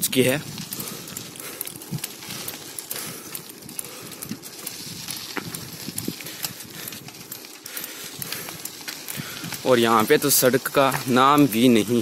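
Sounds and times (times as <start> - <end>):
bicycle rattling and knocking: 0.0 - 12.0
tyres crunching on gravel: 0.0 - 12.0.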